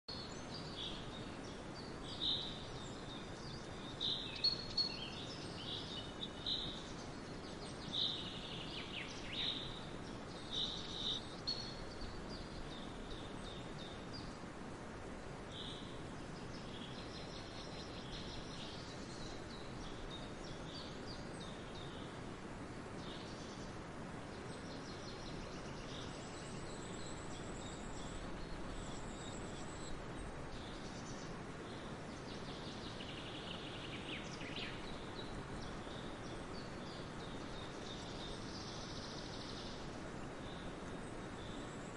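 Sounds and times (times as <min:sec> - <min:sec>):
birds chirping: 0:00.1 - 0:41.9
faint outdoor hiss: 0:00.1 - 0:41.9.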